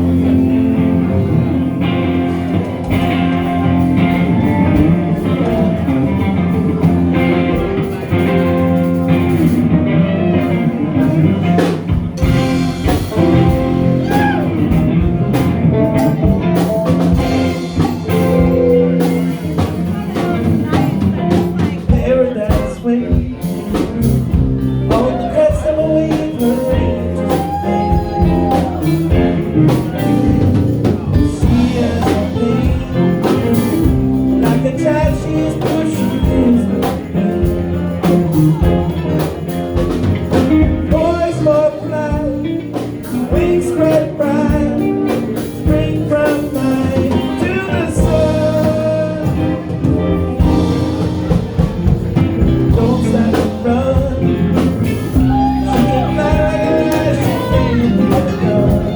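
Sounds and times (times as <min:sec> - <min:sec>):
band playing: 0:00.0 - 0:58.9
person singing: 0:10.4 - 0:58.9.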